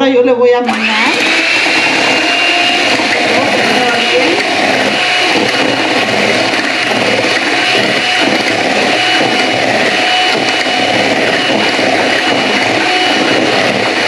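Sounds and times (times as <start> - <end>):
electric blender running: 0.6 - 14.0.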